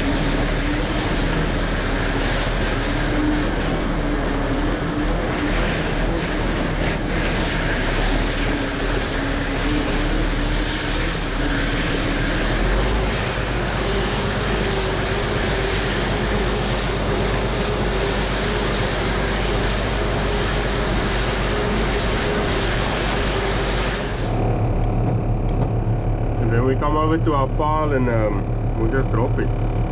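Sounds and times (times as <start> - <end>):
engine running under load: 0.0 - 29.9.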